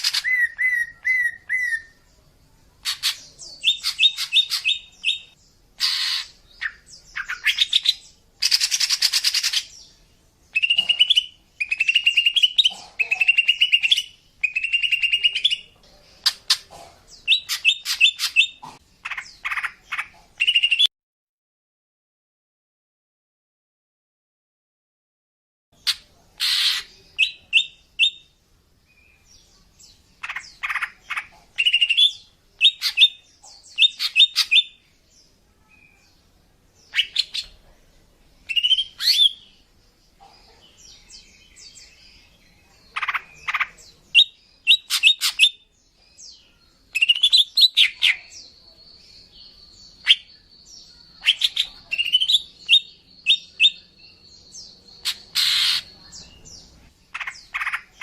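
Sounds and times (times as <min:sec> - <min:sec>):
bird chirping: 0:00.0 - 0:20.9, 0:25.8 - 0:58.0.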